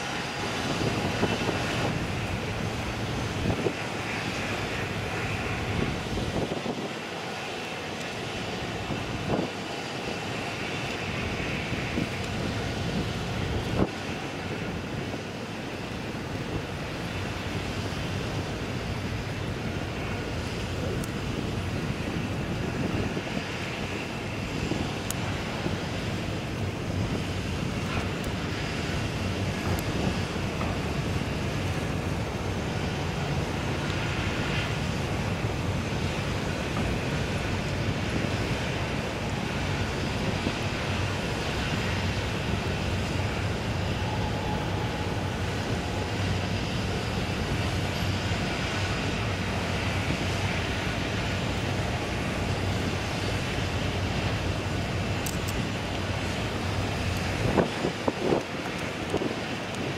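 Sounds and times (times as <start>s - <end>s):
ship machinery drone: 0.0s - 59.9s.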